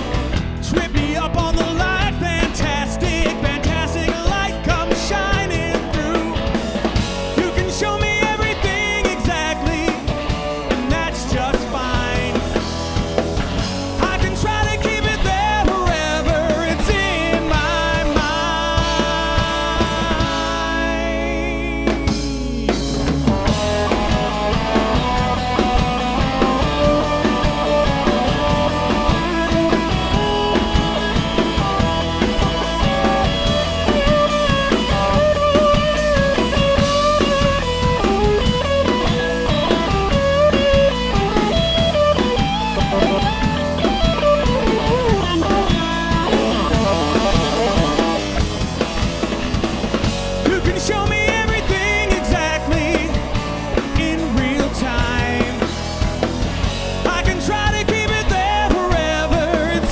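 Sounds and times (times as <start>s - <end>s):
drum kit beat: 0.0s - 59.9s
guitar lead melody bending: 0.0s - 59.9s
rock band playing instrumental: 0.0s - 59.9s.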